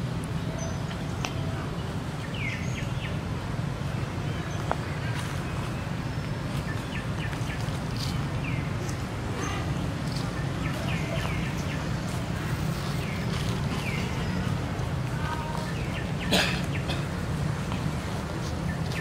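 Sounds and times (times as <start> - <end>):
small birds chirping: 0.3 - 19.0.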